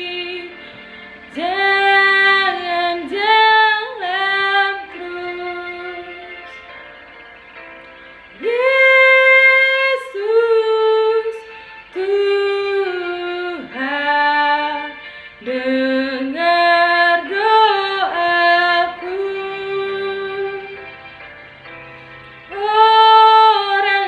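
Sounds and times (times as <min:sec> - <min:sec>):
woman singing unaccompanied: 0:00.0 - 0:00.6, 0:01.3 - 0:06.5, 0:08.4 - 0:20.8, 0:22.5 - 0:24.0.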